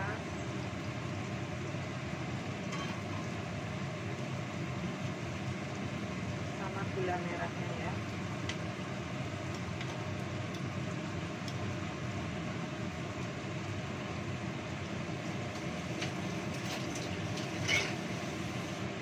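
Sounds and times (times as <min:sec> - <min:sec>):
extractor hood fan whirring: 0:00.0 - 0:19.0.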